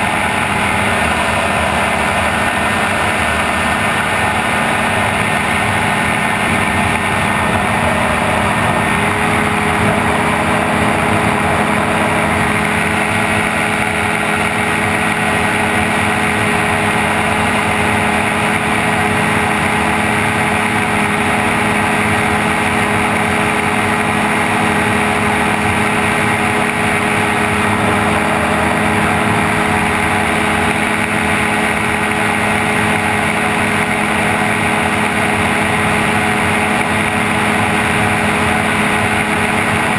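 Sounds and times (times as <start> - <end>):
aircraft engine and propeller: 0.0 - 39.9
airstream rushing: 0.0 - 39.9.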